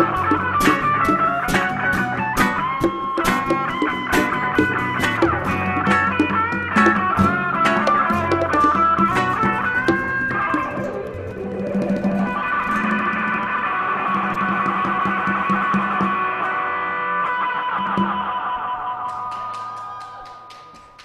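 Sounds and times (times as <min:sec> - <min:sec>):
live band with guitars: 0:00.0 - 0:21.0.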